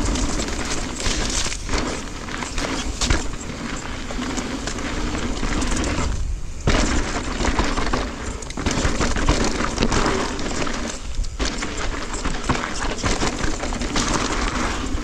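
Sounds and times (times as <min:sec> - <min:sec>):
bike rattling over stones: 0:00.0 - 0:15.0
tyres crunching on stones: 0:00.0 - 0:15.0
wind on microphone: 0:00.0 - 0:15.0.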